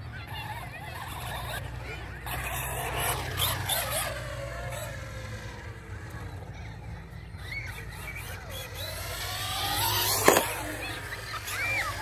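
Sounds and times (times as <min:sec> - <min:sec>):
electric toy truck motor whine: 0:00.0 - 0:12.0.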